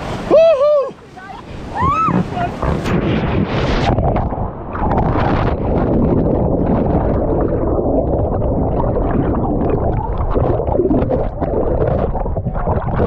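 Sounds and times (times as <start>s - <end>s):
muffled underwater river rush: 0.0s - 13.0s.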